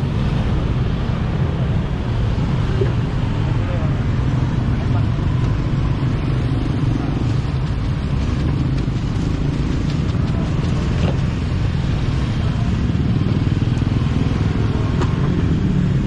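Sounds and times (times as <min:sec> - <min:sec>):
low engine rumble: 0:00.0 - 0:16.0
street noise: 0:00.0 - 0:16.0.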